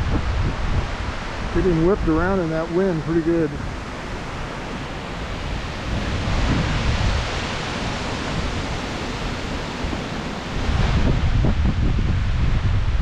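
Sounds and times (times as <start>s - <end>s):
wind buffeting microphone: 0.0s - 13.0s
wind rushing through trees: 0.0s - 13.0s.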